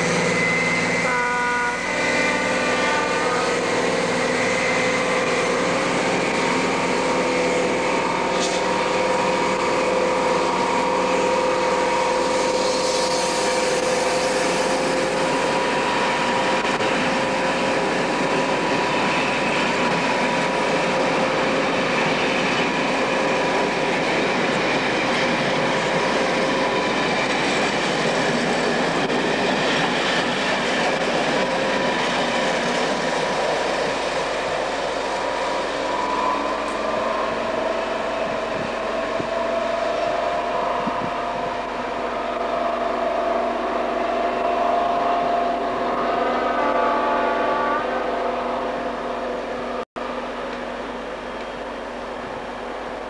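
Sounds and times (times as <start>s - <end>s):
train coaches rumbling past: 0.0s - 53.0s
train whine: 0.0s - 53.0s.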